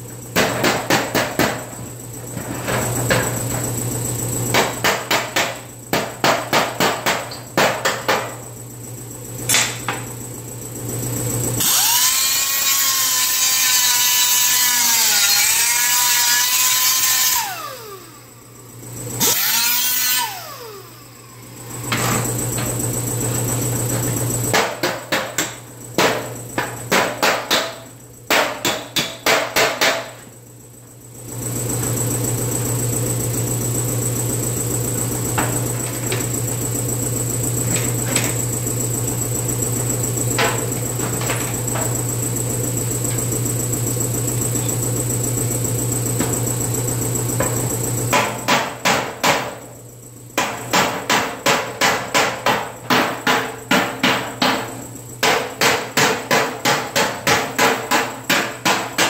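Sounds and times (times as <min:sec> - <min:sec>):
steady machine hum: 0:00.0 - 0:59.0.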